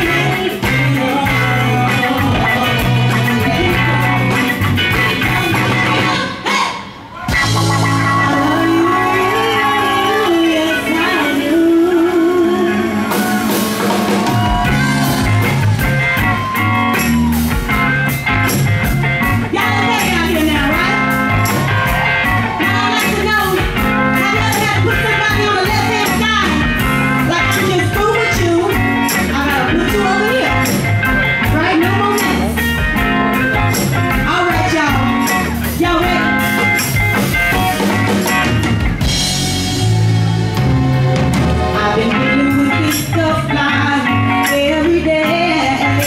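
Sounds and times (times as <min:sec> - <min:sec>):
drums steady beat: 0:00.0 - 0:06.3, 0:07.2 - 0:44.8
live soul-blues band: 0:00.0 - 0:46.0.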